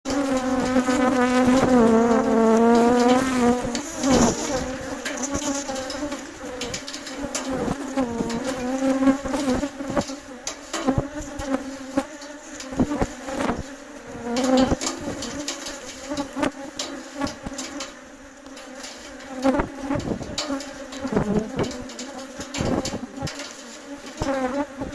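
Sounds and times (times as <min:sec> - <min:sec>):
bees buzzing: 0:00.1 - 0:24.9.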